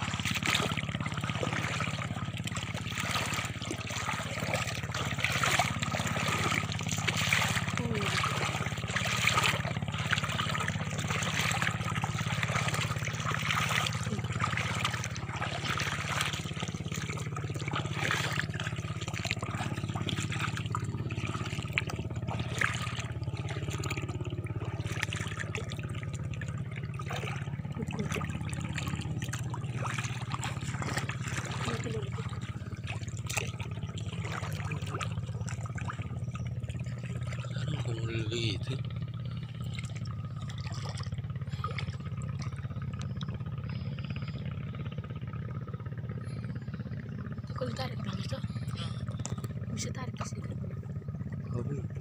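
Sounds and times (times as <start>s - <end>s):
small crackles and splashes: 0.0s - 52.0s
wading through shallow water: 0.0s - 52.0s.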